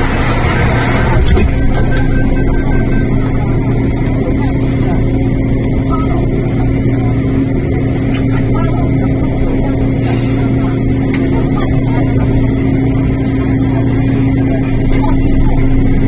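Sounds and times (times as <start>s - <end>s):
train interior hum: 0.0s - 16.0s.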